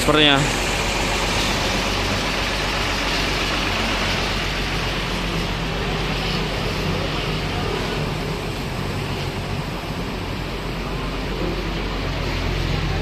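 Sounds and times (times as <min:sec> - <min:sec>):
bus engine idling: 0:00.0 - 0:13.0
traffic noise: 0:00.0 - 0:13.0.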